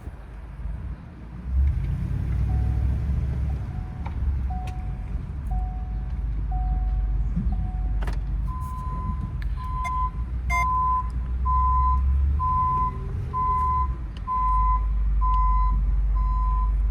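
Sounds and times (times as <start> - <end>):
truck engine running low: 0.0 - 16.9
back-up alarm beeping: 2.5 - 16.7.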